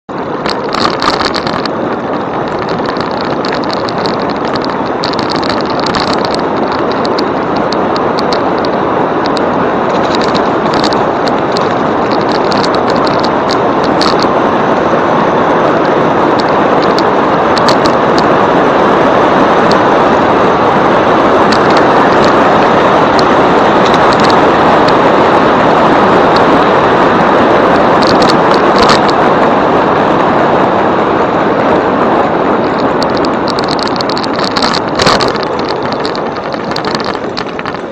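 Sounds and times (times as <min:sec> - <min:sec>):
bicycle tyre noise: 0:00.1 - 0:37.9
wind on microphone: 0:00.1 - 0:37.9.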